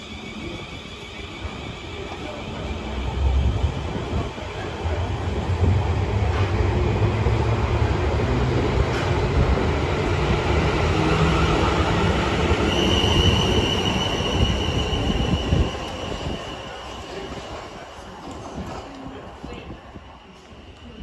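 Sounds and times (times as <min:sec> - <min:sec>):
train rumbling along rails: 0:00.0 - 0:21.0.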